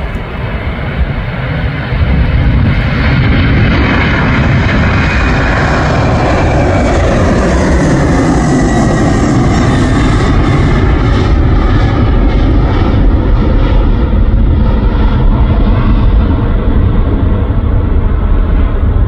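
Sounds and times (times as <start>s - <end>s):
jet engines at takeoff power: 0.0s - 19.0s.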